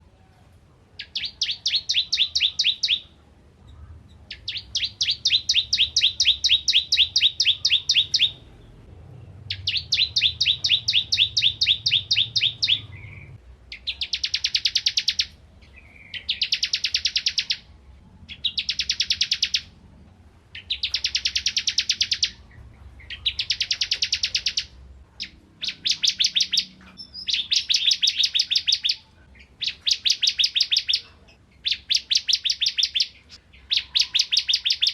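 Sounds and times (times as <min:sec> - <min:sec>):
bird high chirping song: 0:01.0 - 0:34.9.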